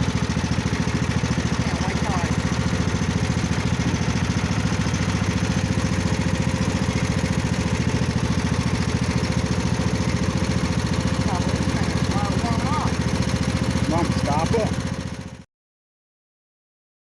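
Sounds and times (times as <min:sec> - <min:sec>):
engine running steadily: 0:00.0 - 0:15.4.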